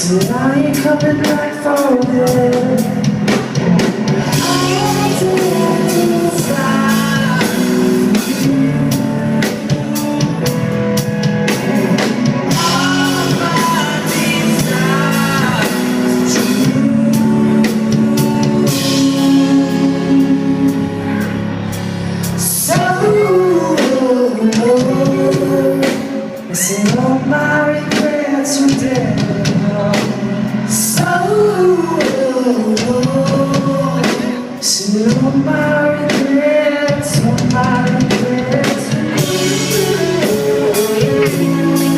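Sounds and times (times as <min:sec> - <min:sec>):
person singing: 0:00.0 - 0:41.9
rock band playing: 0:00.0 - 0:41.9.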